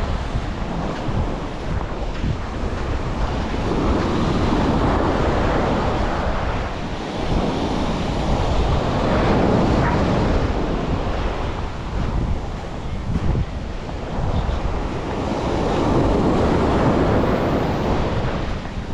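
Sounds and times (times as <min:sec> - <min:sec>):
sea waves breaking on beach: 0:00.0 - 0:18.9
wind buffeting microphone: 0:00.0 - 0:18.9.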